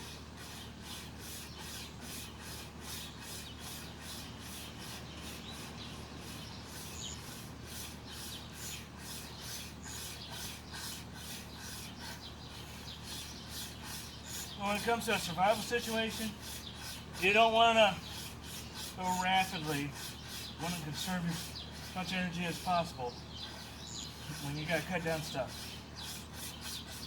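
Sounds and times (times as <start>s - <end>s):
wire saw rasping through branch: 0.0s - 27.0s.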